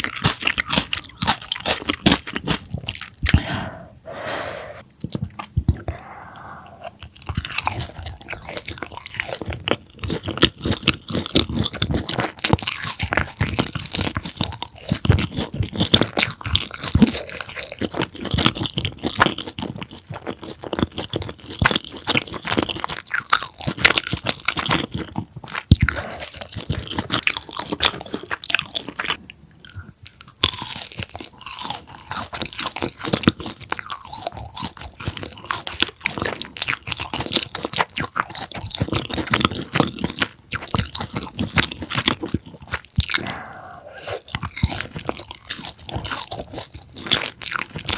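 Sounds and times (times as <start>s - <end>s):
crunching and chewing crisp food: 0.0s - 3.9s, 5.0s - 47.9s.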